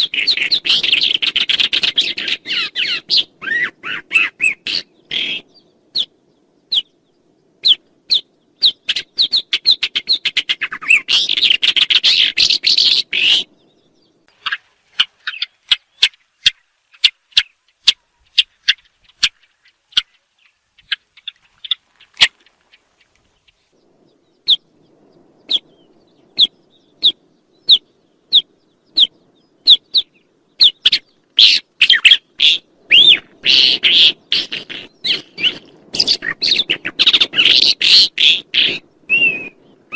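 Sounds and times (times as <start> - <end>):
songbird chirping and chattering: 0.0 - 39.9.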